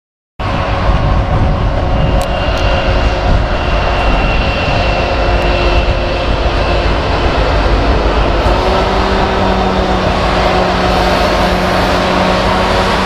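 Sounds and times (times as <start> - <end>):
locomotive engine roar: 0.4 - 13.0.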